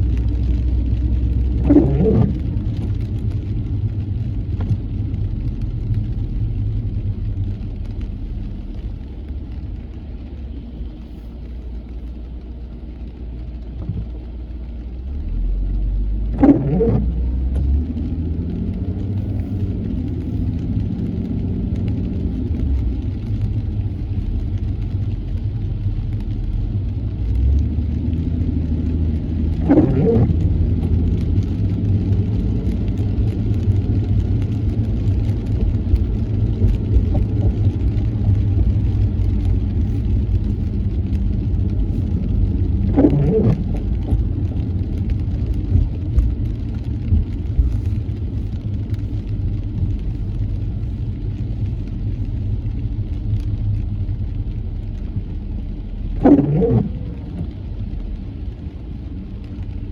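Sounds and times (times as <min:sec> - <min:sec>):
car engine and tyres on wet road: 0:00.0 - 0:59.9.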